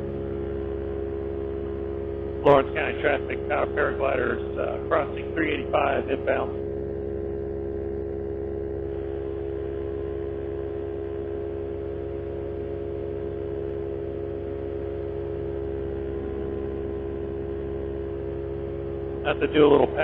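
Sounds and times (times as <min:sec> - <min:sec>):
paramotor engine droning: 0:00.0 - 0:20.0.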